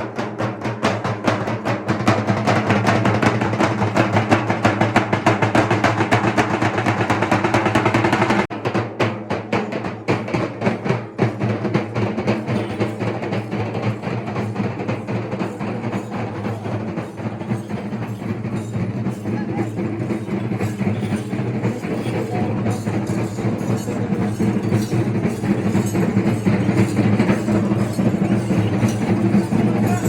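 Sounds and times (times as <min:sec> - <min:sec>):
drum-heavy percussion music: 0:00.0 - 0:30.0.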